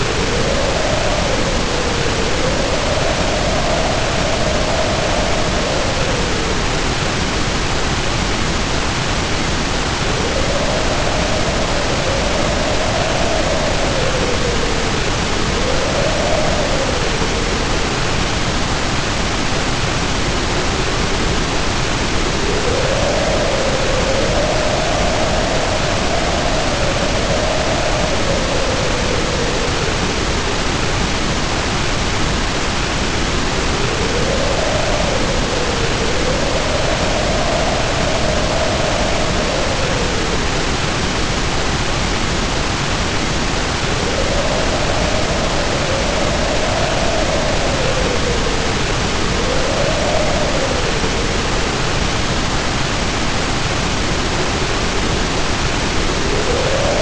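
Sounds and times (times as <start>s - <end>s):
heavy rain pouring: 0.0s - 57.0s
wind howling: 0.0s - 57.0s.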